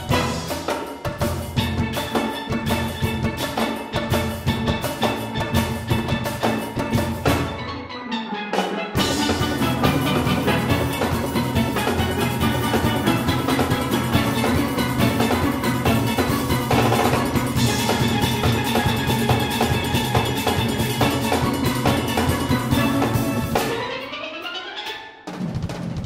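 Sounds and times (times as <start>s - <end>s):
drum kit rhythm: 0.0s - 7.7s, 8.6s - 24.4s
steel orchestra playing: 0.0s - 25.4s.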